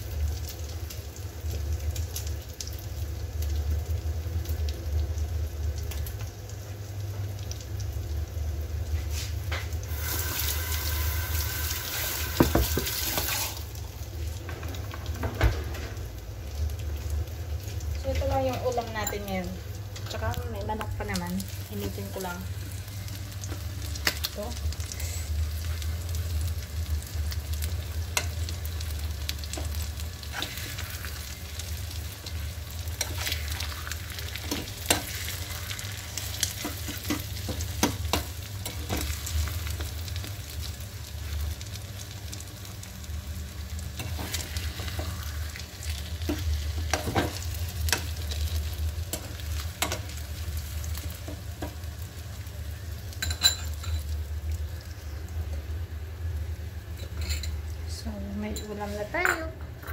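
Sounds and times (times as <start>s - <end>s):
eggs sizzling in oil: 0.0s - 59.8s.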